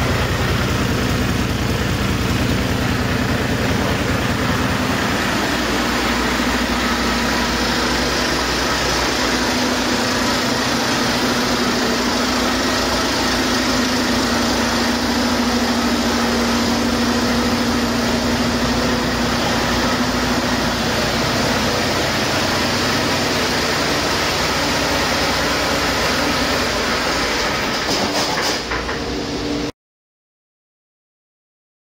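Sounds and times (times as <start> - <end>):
diesel engine running: 0.0 - 29.7.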